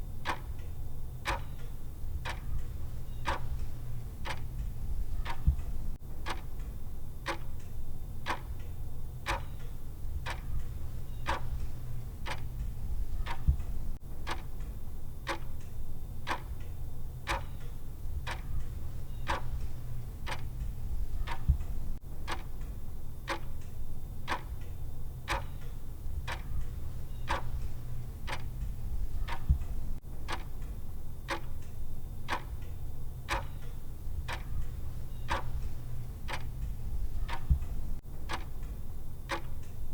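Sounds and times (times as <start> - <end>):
clock ticking: 0.0 - 16.7, 17.3 - 39.9.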